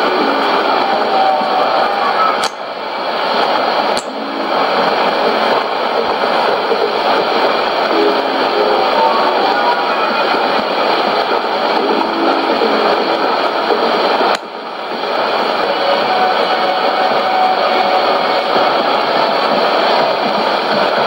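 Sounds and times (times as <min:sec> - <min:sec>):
radio hiss: 0:00.0 - 0:21.0
weak radio music: 0:00.0 - 0:21.0.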